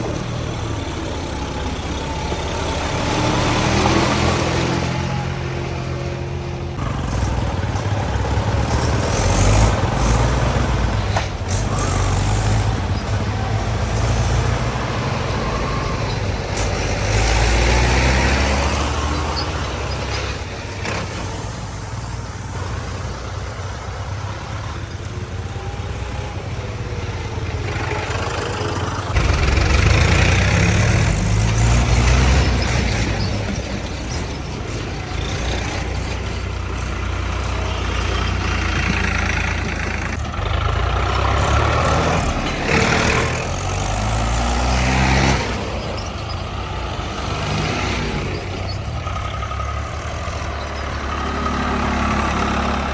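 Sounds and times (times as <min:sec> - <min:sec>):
diesel tractor engines under load: 0:00.0 - 0:52.9.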